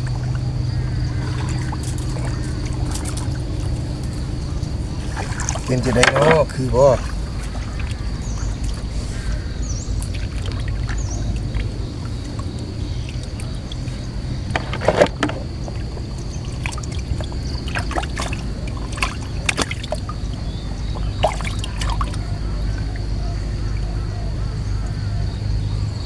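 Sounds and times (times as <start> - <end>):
water splashes and knocks: 0.0 - 23.1
boat motor rumbling: 0.0 - 26.0.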